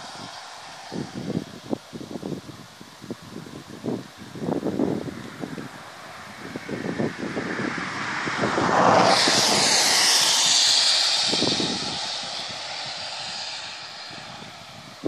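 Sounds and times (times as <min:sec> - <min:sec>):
loud rushing noise: 0:00.0 - 0:02.8, 0:05.4 - 0:15.0
wind buffeting microphone: 0:00.0 - 0:15.0.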